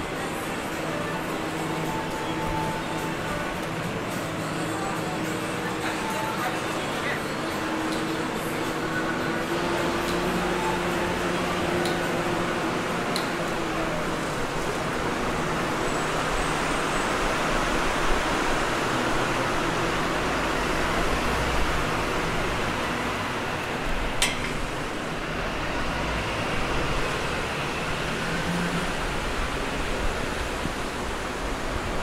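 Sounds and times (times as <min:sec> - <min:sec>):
passing traffic hum: 0:00.0 - 0:32.0.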